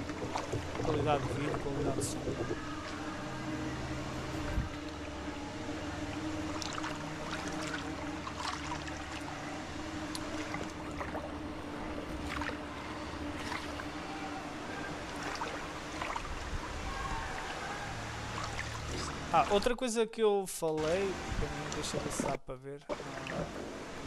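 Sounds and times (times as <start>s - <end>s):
low hum: 0.0s - 19.8s
rushing river water: 0.0s - 19.8s, 20.8s - 24.0s
water sloshing and splashing: 0.0s - 19.8s, 20.8s - 24.0s.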